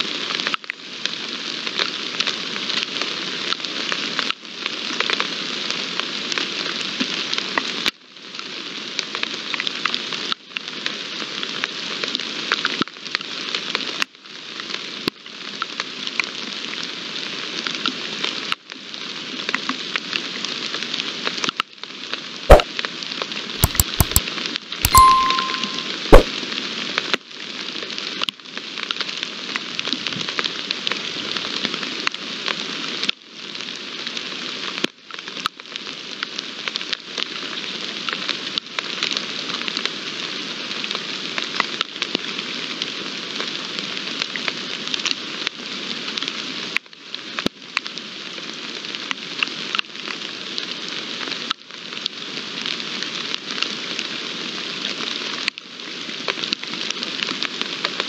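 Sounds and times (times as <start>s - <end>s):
steady rain falling: 0.0s - 24.8s, 26.4s - 58.0s.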